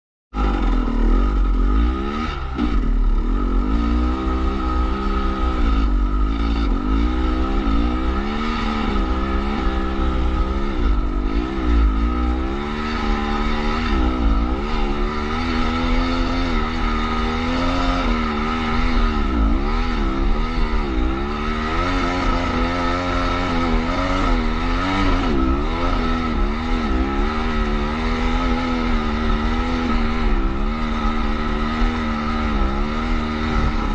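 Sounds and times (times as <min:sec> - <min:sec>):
motorcycle engine revving: 0:00.3 - 0:33.9.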